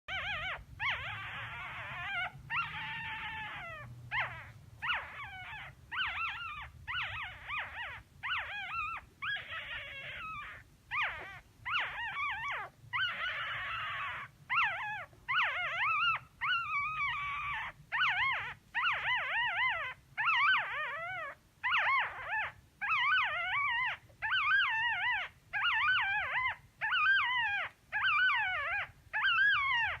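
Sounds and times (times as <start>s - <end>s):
faint low hum: 0.1s - 30.0s
puppies crying in high squeals: 0.1s - 30.0s.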